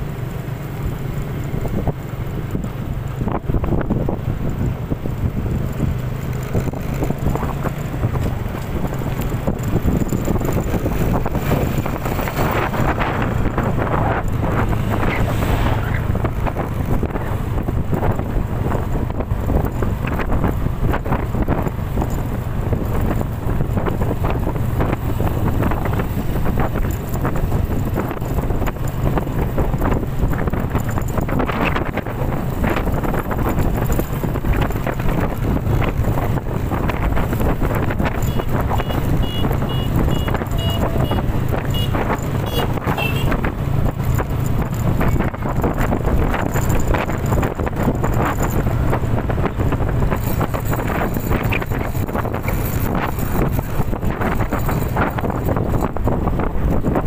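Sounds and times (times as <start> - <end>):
strong wind on microphone: 1.4 - 57.0.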